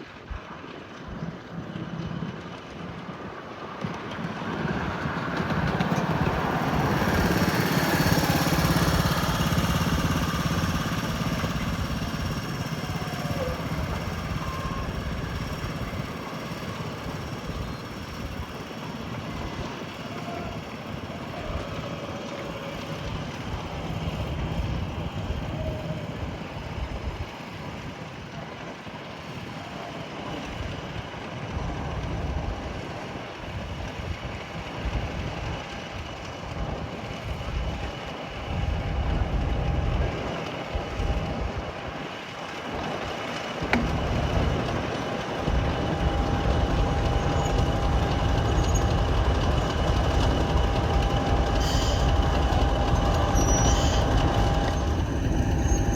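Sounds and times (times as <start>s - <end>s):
train running: 0.0s - 55.9s.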